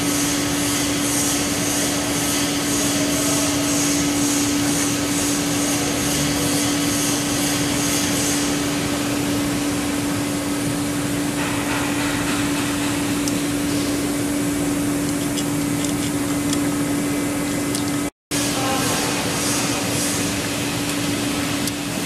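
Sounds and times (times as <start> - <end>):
machinery hum: 0.0 - 22.0.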